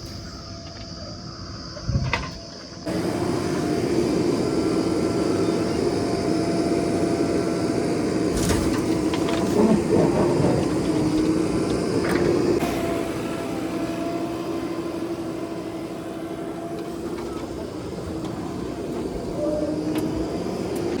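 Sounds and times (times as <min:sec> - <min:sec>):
diesel engine running: 0:02.8 - 0:21.0.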